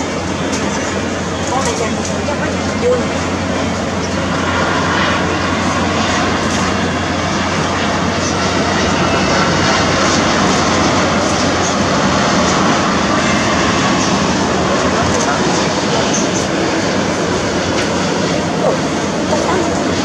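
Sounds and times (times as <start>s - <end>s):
jet engines on approach: 0.0s - 20.0s.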